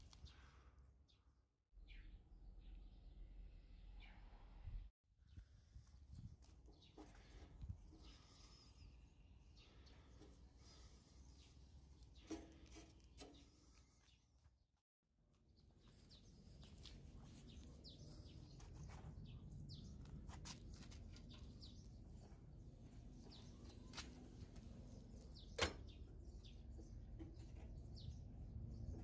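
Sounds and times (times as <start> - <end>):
small birds chirping: 0.0 - 14.4, 15.3 - 29.0.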